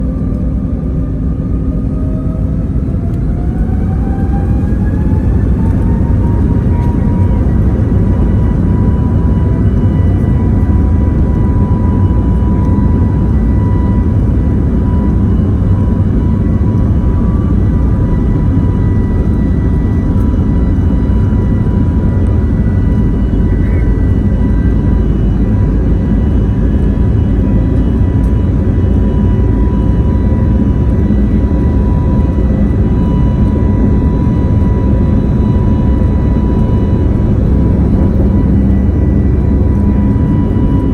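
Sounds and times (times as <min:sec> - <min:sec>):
heavy rumble of takeoff roll: 0:00.0 - 0:40.9
jet engine whine: 0:00.0 - 0:40.9.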